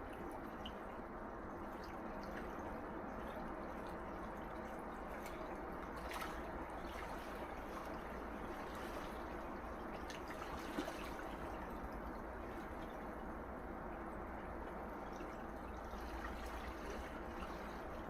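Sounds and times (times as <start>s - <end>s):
gentle waves washing on shore: 0.0s - 18.0s
small water splash: 0.0s - 18.0s
water trickling and fizzing: 0.0s - 18.0s.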